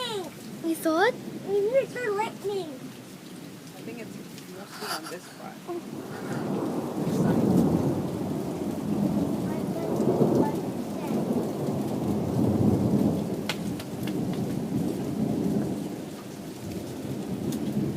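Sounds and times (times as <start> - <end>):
heavy rain pouring: 0.0 - 17.9
sharp taps of raindrops: 0.0 - 17.9.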